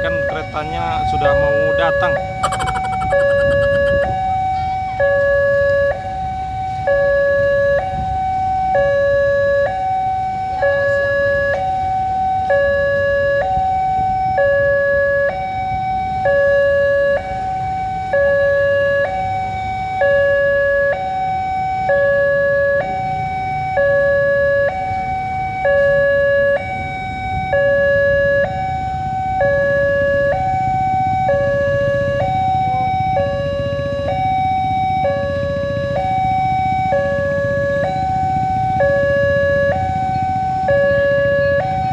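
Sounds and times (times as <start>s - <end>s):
two-tone crossing alarm: 0.0s - 41.9s.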